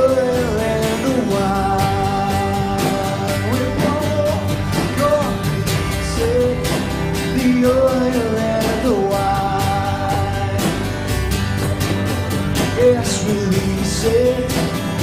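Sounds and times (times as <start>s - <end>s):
person singing: 0.0s - 11.0s, 12.7s - 15.0s
guitar: 0.0s - 15.0s
steady drum beat: 0.0s - 15.0s.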